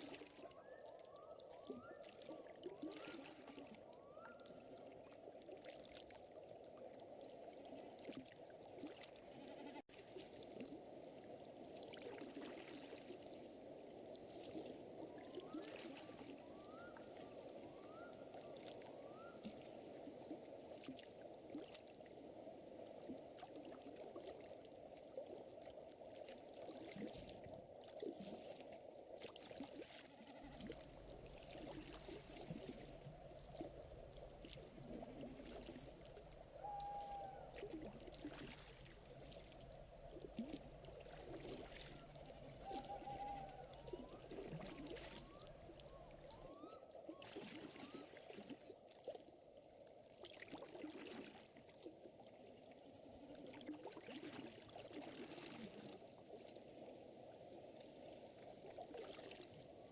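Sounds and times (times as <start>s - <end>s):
water gently lapping: 0.0s - 59.9s.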